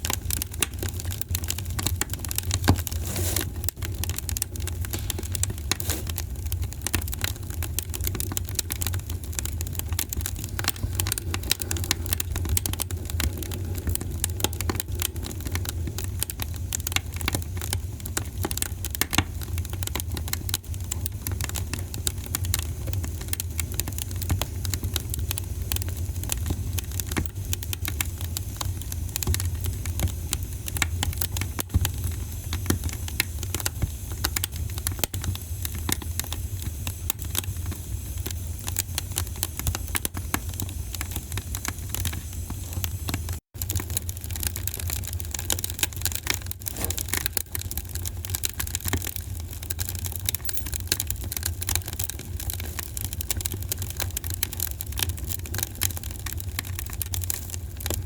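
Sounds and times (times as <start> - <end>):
fire crackling in a fireplace: 0.0 - 58.0.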